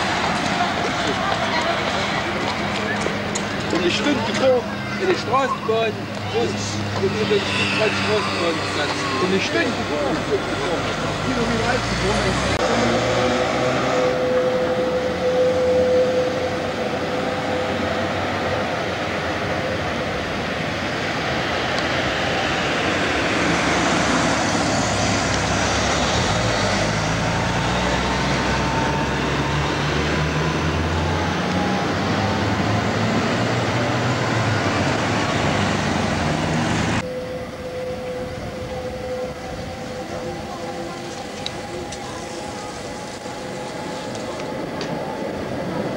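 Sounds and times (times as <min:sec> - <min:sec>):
car traffic: 0:00.0 - 0:45.9
tram passing on track: 0:00.0 - 0:45.9.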